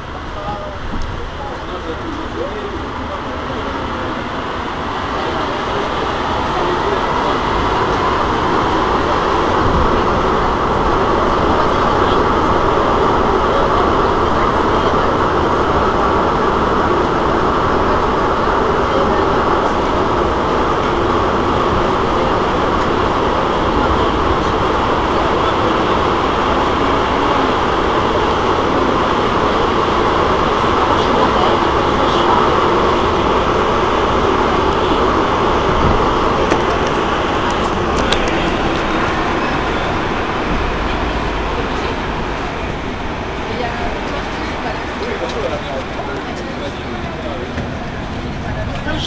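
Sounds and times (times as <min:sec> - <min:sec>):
metro train rolling and motor noise: 0:00.0 - 0:49.0.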